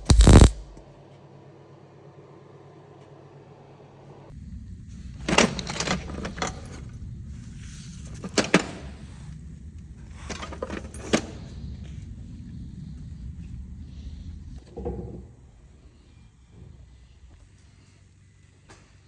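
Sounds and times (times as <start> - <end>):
steady low hum: 0.0 - 1.0, 4.3 - 19.0.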